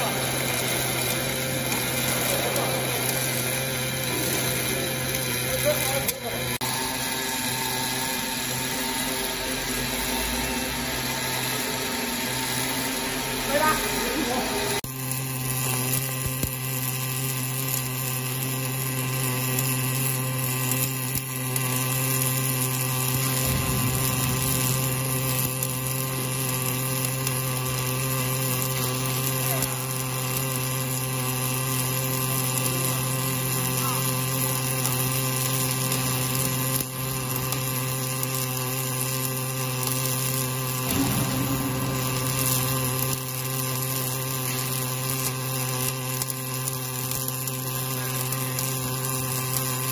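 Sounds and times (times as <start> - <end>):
welding arc hissing: 0.0 - 49.9
welding machine hum: 0.0 - 49.9.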